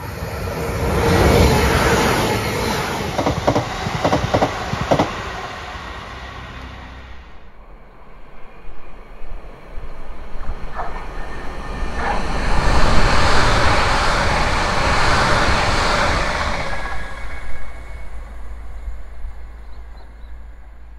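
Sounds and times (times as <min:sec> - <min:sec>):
electric train passing: 0:00.0 - 0:20.9
wheel and rail noise: 0:00.0 - 0:20.9.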